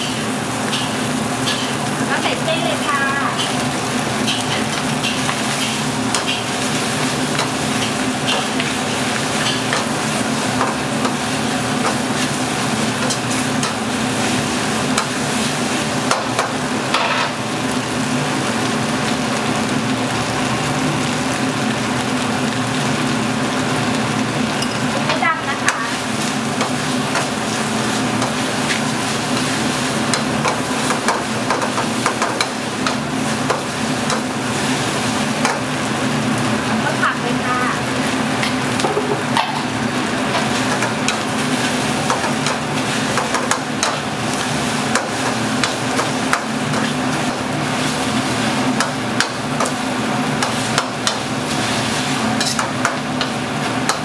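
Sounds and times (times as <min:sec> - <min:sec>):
noodles sizzling in a wok: 0:00.0 - 0:54.0.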